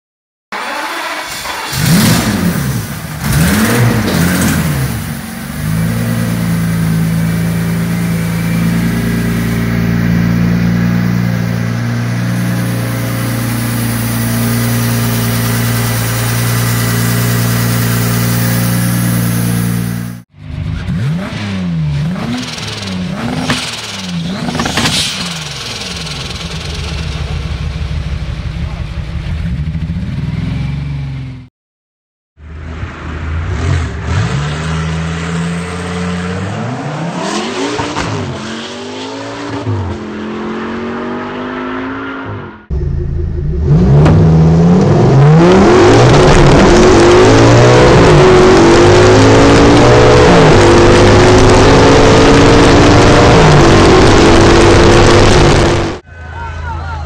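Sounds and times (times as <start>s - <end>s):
car engine revving: 0.6s - 31.4s, 32.5s - 56.0s.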